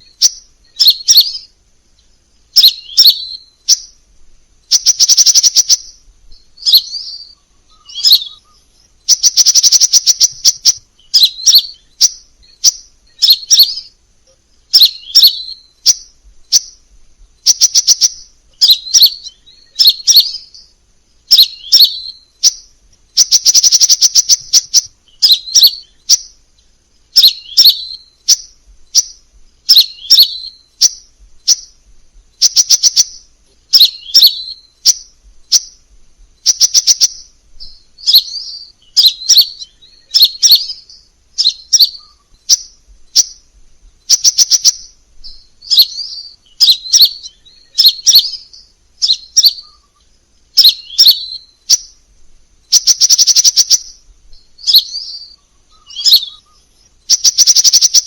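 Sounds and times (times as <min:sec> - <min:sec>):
bird high chirps: 0:00.0 - 0:58.0
bird ticking trill: 0:00.0 - 0:58.0.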